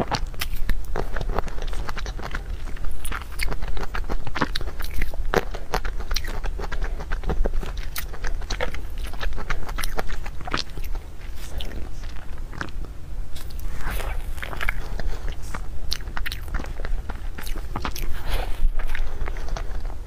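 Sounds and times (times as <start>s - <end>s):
chewing and smacking: 0.0s - 20.0s.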